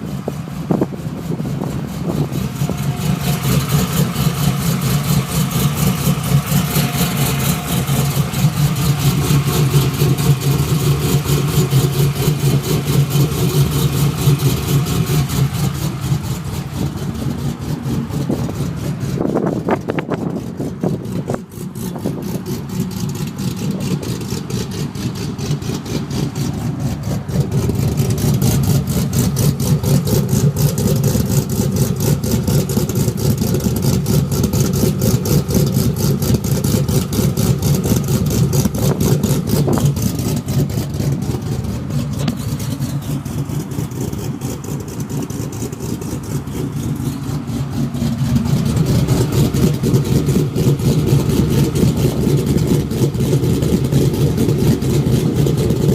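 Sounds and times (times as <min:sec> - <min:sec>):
loud pulsing engine idle: 0:00.0 - 0:55.9.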